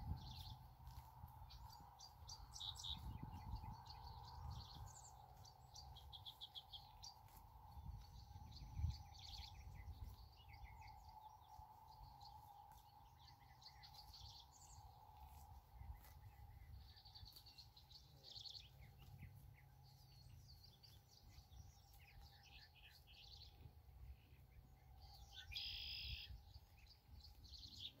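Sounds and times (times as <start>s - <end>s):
low rumble: 0.0s - 25.4s
birds chirping and trilling: 0.0s - 28.0s.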